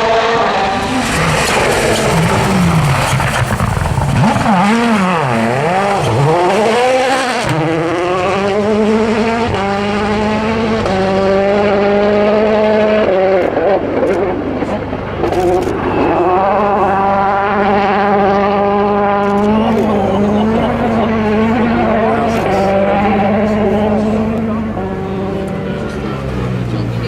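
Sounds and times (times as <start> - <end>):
rally car engine running hard: 0.0 - 27.0.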